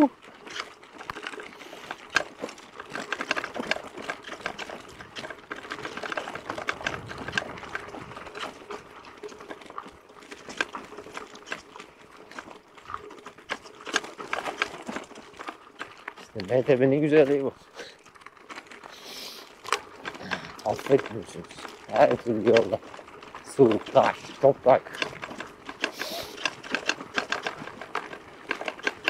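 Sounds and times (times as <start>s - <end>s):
bike rattling over rough road: 0.0s - 29.0s.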